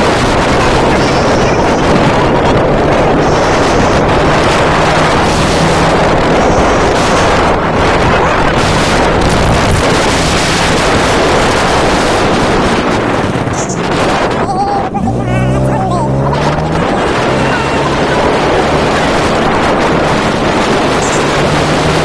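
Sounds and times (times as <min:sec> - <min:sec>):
low engine hum: 0:00.0 - 0:22.0
wind rushing over microphone: 0:00.0 - 0:22.0.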